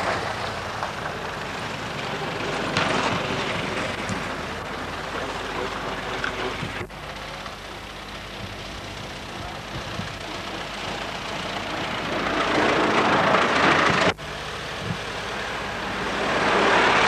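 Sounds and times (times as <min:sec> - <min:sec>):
old car engines driving past: 0:00.0 - 0:17.0.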